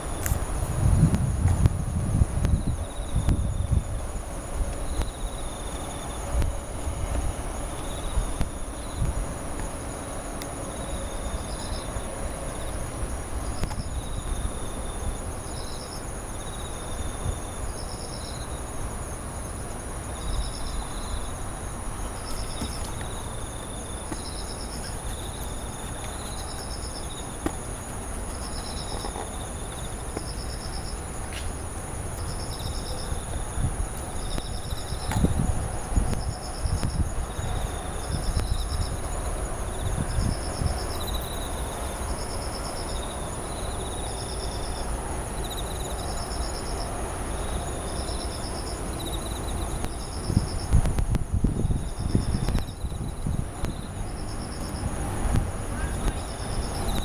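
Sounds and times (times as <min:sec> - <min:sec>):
lower insect chirps: 0:00.0 - 0:55.0
high-pitched insect trill: 0:00.0 - 0:57.0
insect pulsed chirp: 0:00.0 - 0:57.0.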